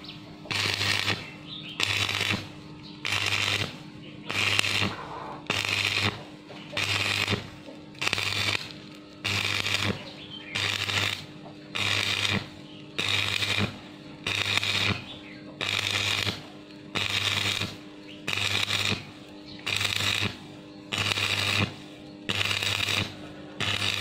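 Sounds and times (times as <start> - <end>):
arc welding crackling bursts: 0.0 - 24.0
low electrical hum: 0.0 - 24.0.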